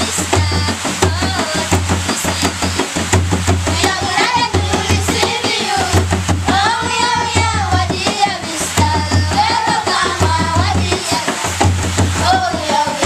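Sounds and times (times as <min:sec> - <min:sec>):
children singing: 0:00.0 - 0:03.0, 0:03.7 - 0:13.0
hand drums beating: 0:00.0 - 0:13.0.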